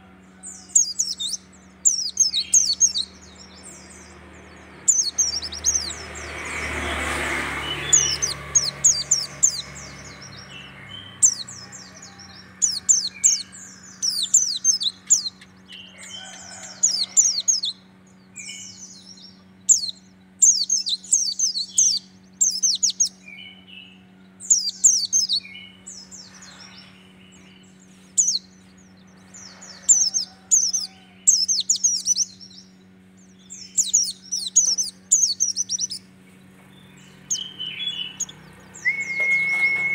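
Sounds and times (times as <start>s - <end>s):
bird twittering song: 0.0s - 39.9s
steady low hum: 0.0s - 39.9s.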